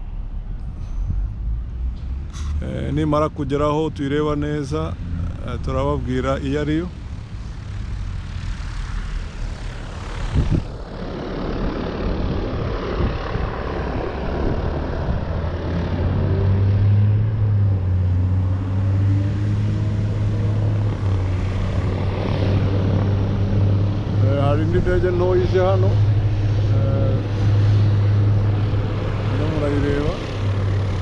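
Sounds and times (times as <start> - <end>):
propeller aircraft engine drone: 0.0 - 31.0.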